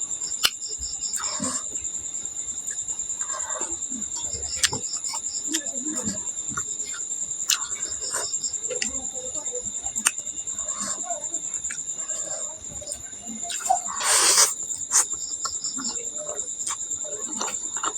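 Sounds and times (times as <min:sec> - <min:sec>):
crickets chirping: 0:00.0 - 0:17.9
soft chewing: 0:00.3 - 0:17.9.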